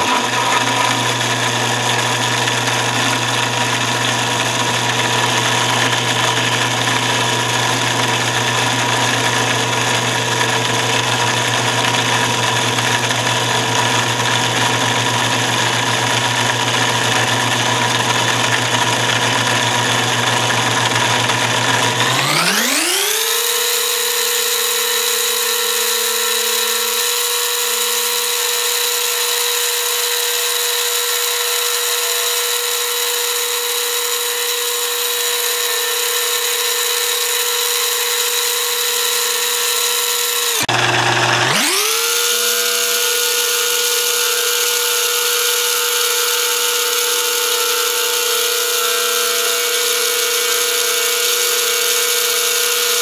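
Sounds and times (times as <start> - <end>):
motor high whine: 0.0 - 53.0.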